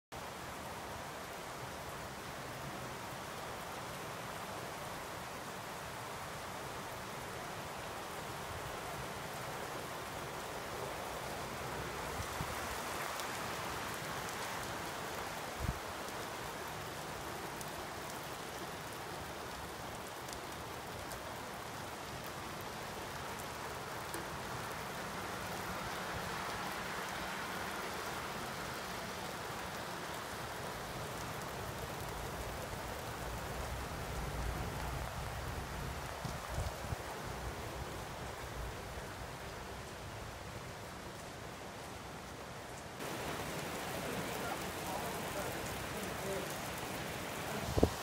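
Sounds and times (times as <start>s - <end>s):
rain on wet street and foliage: 0.1s - 48.0s.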